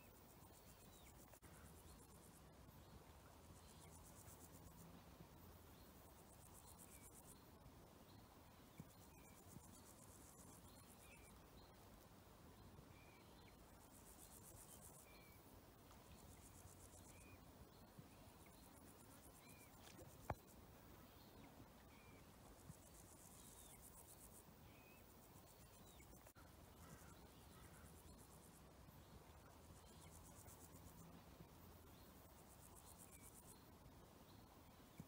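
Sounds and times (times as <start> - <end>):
insects stridulating: 0.0 - 35.0.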